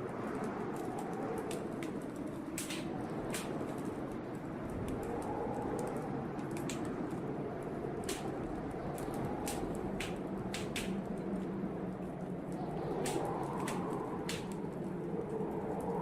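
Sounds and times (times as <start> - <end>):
blizzard wind rushing: 0.0 - 16.0
wood fire crackling: 0.0 - 16.0
fire popping: 0.1 - 16.0.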